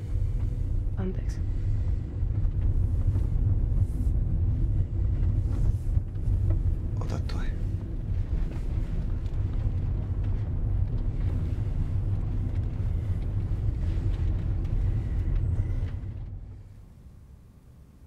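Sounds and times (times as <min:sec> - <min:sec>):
car engine and road noise: 0:01.6 - 0:17.6.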